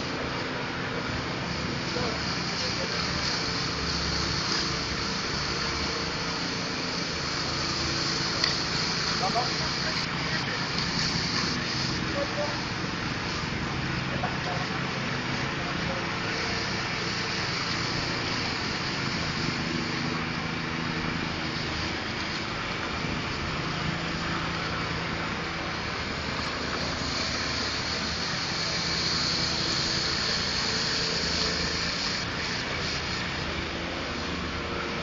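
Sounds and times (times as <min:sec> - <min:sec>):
high hiss: 0:00.0 - 0:35.0
small petrol engine running: 0:00.0 - 0:35.0.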